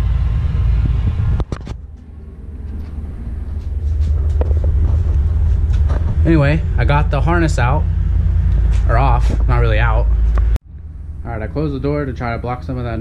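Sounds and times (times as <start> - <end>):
low rumble from outside: 0.0 - 13.0.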